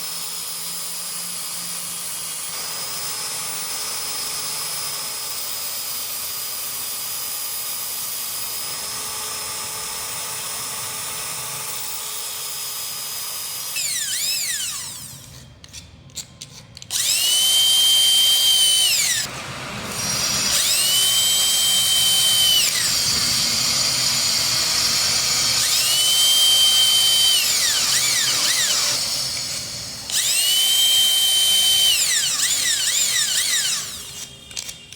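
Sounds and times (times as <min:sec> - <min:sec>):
electric drill motor whining: 0:00.0 - 0:15.4, 0:16.9 - 0:34.8.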